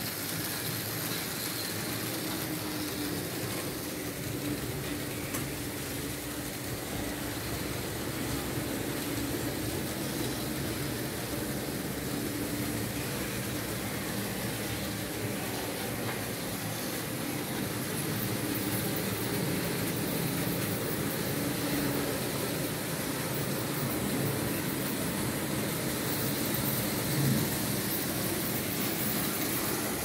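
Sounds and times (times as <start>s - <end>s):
model train wheels rumbling: 0.0s - 30.0s.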